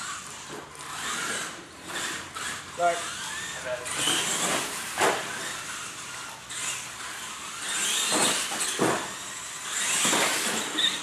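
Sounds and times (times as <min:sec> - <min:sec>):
toy truck motors whirring: 0:00.0 - 0:11.0
toy trucks knocking and landing: 0:00.0 - 0:11.0.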